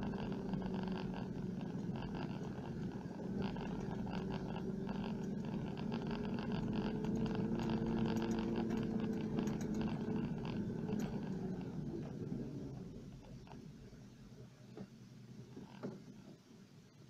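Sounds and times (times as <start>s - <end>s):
vehicle rattles: 0.0s - 14.0s
vehicle engine droning: 0.0s - 14.5s.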